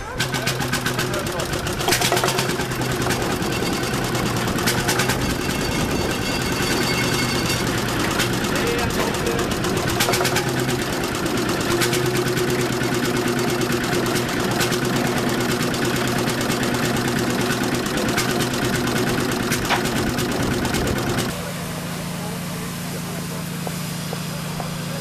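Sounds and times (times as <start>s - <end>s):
engine idling: 0.0s - 25.0s
sharp clicks and knocks: 0.2s - 21.3s.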